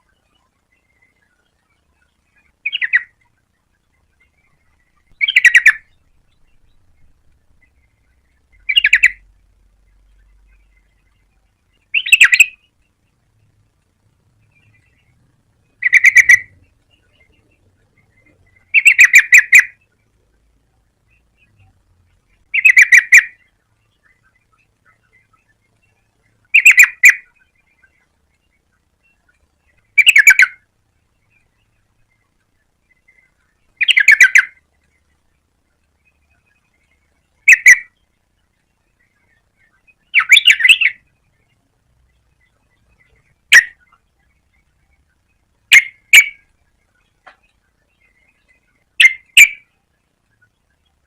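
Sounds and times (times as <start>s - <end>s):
bird calling with bubbling notes: 0.0s - 12.9s, 14.4s - 20.1s, 20.9s - 35.0s, 36.0s - 38.2s, 38.8s - 51.0s.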